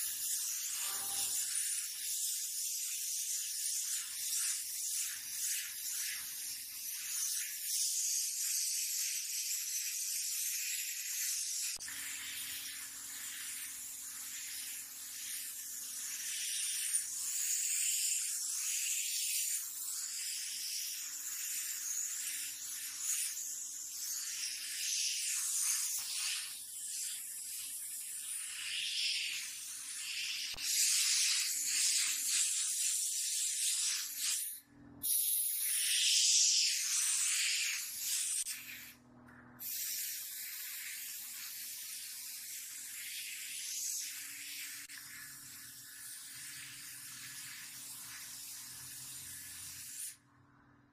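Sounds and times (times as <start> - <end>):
paint spray gun hissing: 0.0 - 39.0, 39.6 - 50.2.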